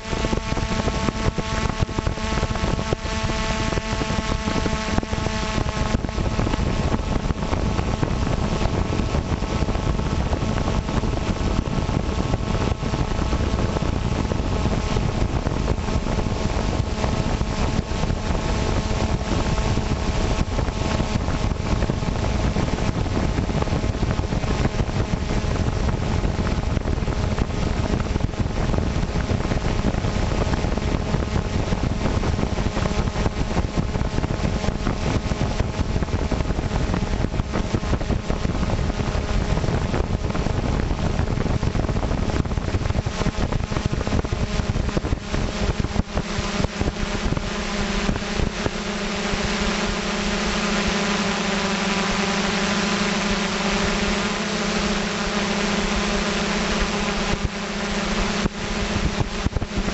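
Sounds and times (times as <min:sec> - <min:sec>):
drone motors humming: 0:00.0 - 0:59.9
wind buffeting microphone: 0:00.0 - 0:59.9.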